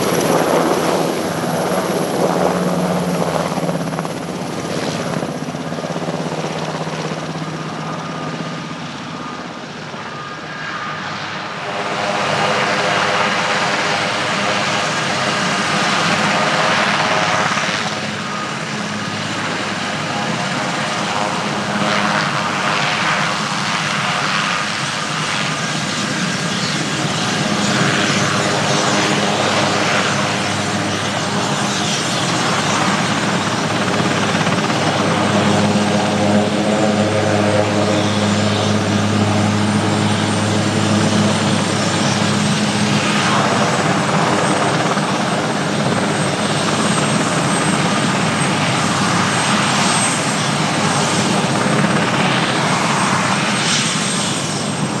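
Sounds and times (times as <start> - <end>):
helicopter engines and rotor: 0.0 - 55.0.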